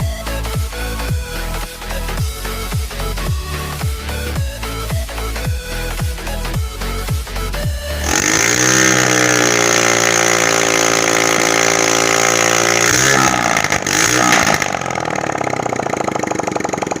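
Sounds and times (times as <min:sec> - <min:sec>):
motorcycle engine revving and idling: 0:00.0 - 0:17.0.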